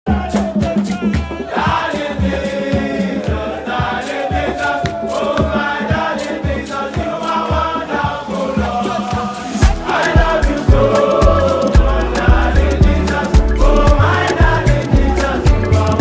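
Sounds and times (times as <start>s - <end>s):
choir-like vocal song: 0.1s - 16.0s.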